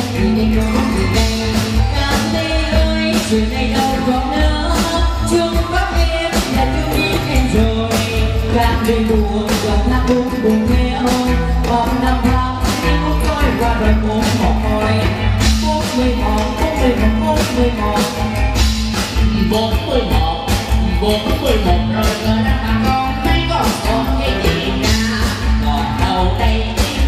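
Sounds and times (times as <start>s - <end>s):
live band music: 0.0s - 27.0s
person singing: 0.0s - 27.0s
steady drum beat: 0.0s - 27.0s.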